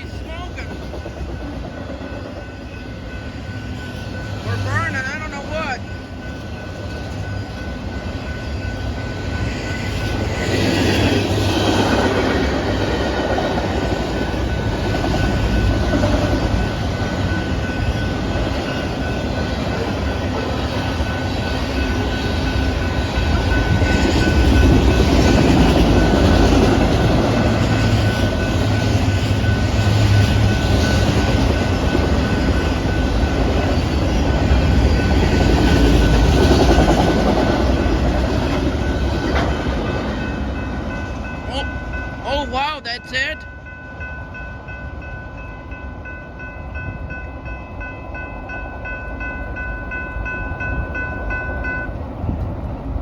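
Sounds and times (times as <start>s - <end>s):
freight train rumbling on rails: 0.0s - 53.0s.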